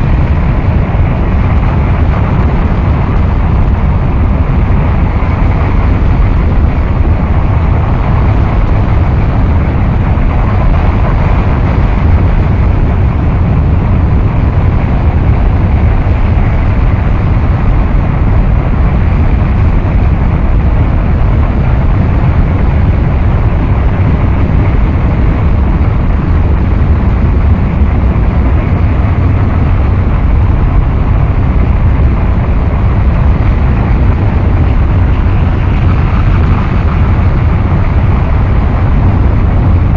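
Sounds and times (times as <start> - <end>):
harsh noise wall: 0.0 - 39.9.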